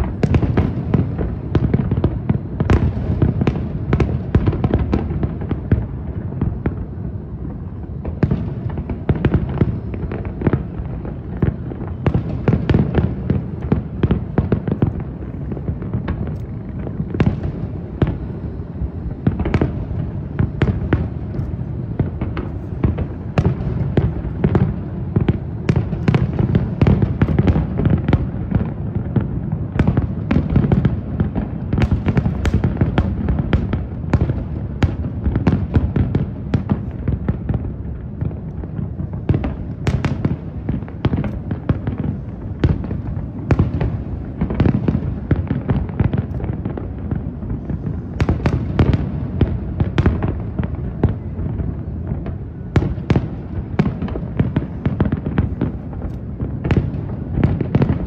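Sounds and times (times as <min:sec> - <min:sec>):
fireworks booming: 0:00.0 - 0:58.0
fireworks crackling: 0:00.0 - 0:58.0
low rumble of detonations: 0:00.0 - 0:58.0.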